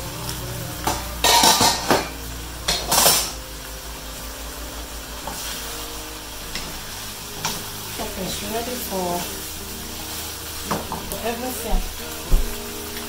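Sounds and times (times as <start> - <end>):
stirring in a pan: 0.0 - 13.0
vegetables sizzling in a frying pan: 0.0 - 13.0.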